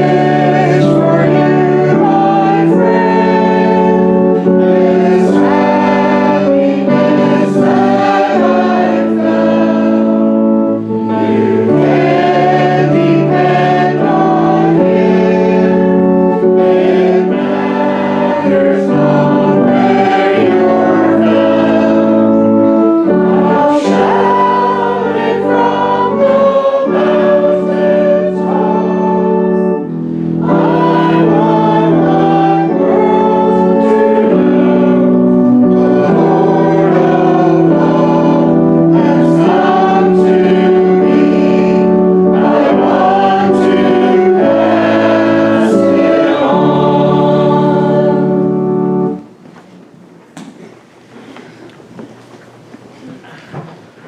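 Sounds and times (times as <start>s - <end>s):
congregation singing a hymn: 0.0s - 49.4s
organ accompaniment: 0.0s - 50.2s.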